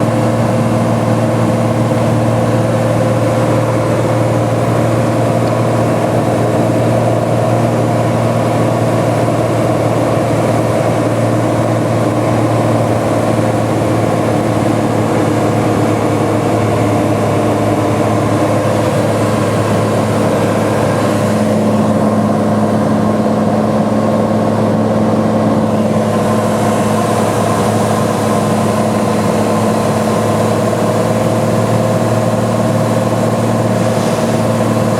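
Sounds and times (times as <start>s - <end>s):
propeller plane engine droning: 0.0s - 34.9s.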